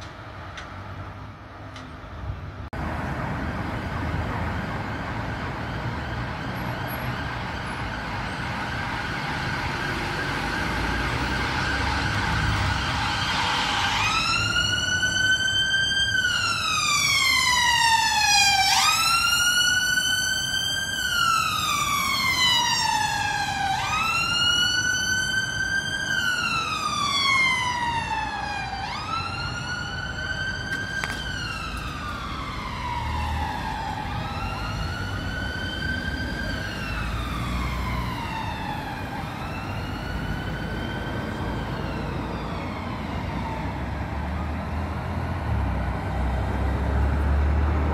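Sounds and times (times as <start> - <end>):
road traffic: 0.0 - 47.9
emergency siren wailing: 2.8 - 47.9.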